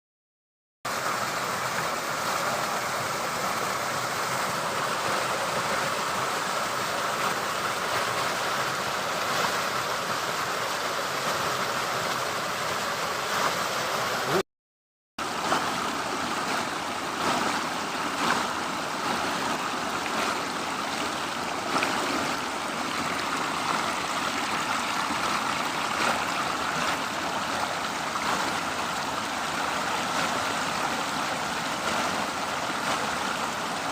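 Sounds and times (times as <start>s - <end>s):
waterfall rushing and splashing: 0.9s - 14.4s, 15.2s - 33.9s.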